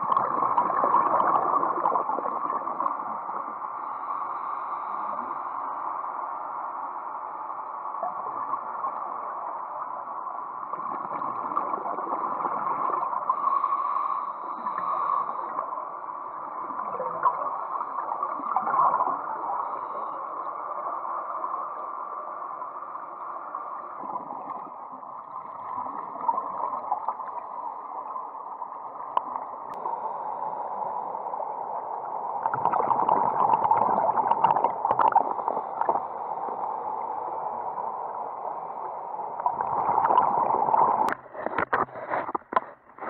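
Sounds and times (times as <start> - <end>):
muffled underwater water rushing: 0.0 - 43.0.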